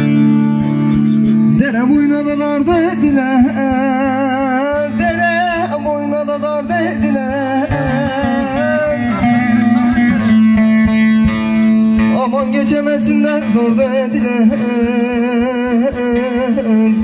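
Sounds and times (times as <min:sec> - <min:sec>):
electronic keyboard folk melody: 0:00.0 - 0:17.0.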